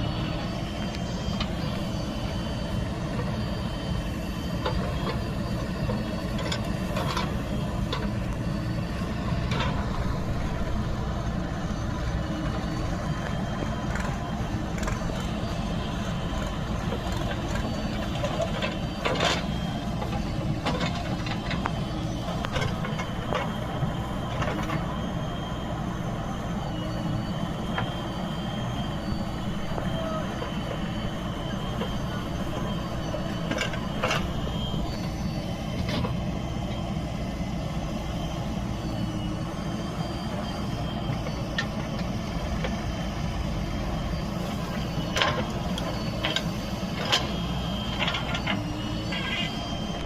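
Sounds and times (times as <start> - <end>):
heavy machinery engine running: 0.0 - 50.0.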